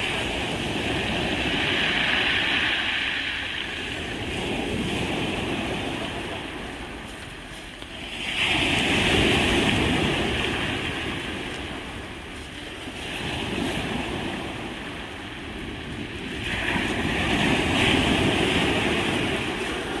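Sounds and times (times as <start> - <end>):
waves breaking on pebble beach: 0.0 - 20.0.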